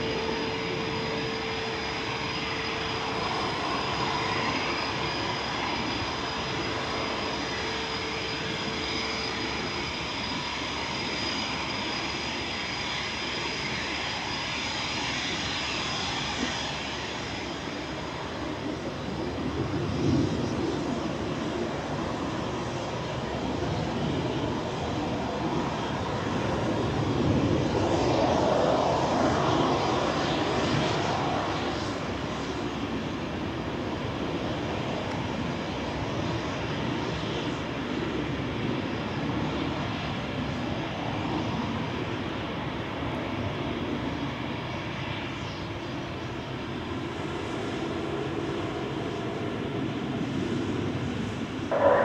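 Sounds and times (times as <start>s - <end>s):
jet engines taxiing: 0.0s - 52.0s.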